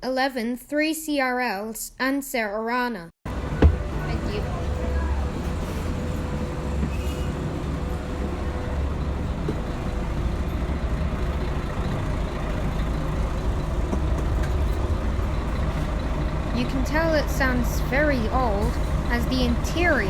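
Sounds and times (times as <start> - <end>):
bus diesel engine drone: 3.3 - 20.0.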